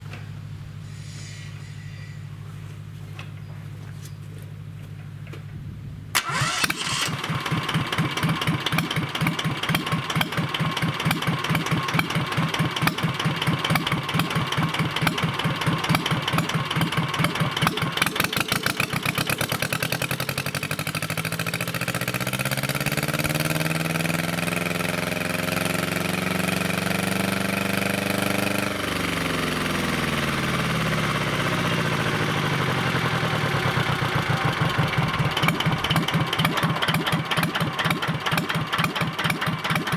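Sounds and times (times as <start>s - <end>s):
marine diesel engine idling and revving: 6.2s - 39.9s.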